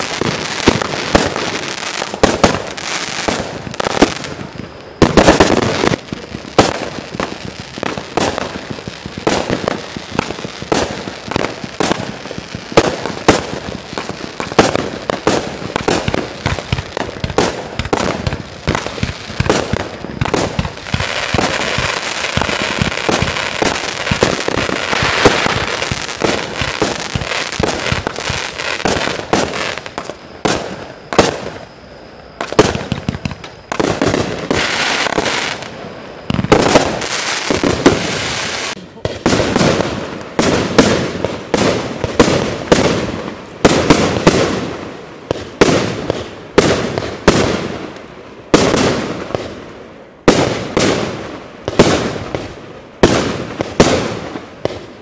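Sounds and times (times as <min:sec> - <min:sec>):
dense firework crackling: 0:00.0 - 0:55.0
fireworks launching and bursting: 0:00.0 - 0:55.0.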